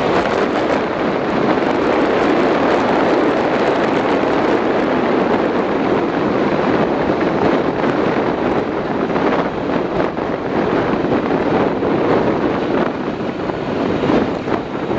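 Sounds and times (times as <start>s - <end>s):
traffic rumble: 0.0s - 14.9s
wind buffeting microphone: 0.0s - 14.9s.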